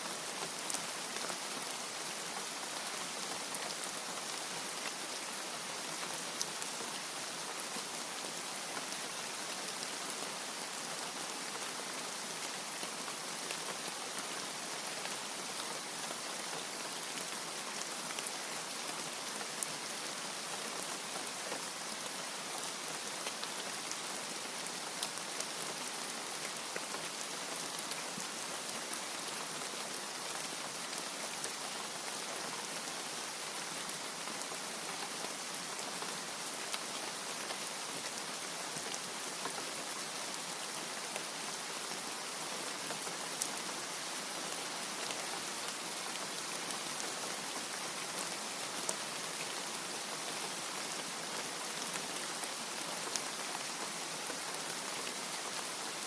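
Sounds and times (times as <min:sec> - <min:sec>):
heavy rainfall: 0:00.0 - 0:56.0.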